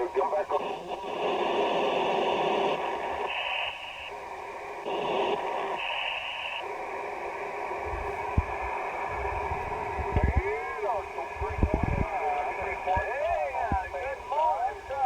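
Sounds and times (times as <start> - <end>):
high radio tones: 0.0 - 15.0
radio hissing noise: 0.0 - 15.0.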